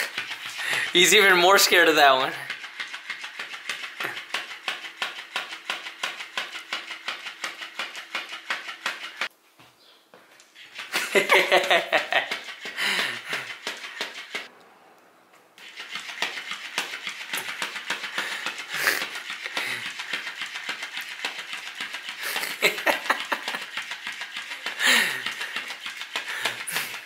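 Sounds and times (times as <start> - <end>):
toy tail slapping the floor: 0.0 - 9.3, 10.4 - 14.5, 15.6 - 27.0.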